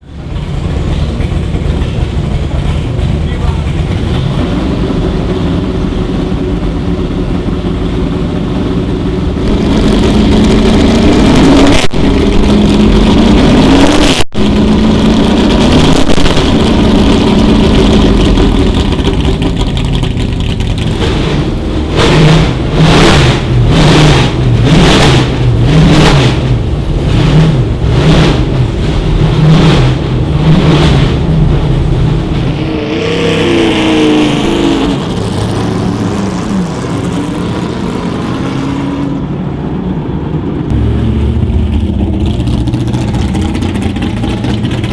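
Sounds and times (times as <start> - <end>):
racing car engine revving: 0.0 - 39.5, 40.6 - 44.9.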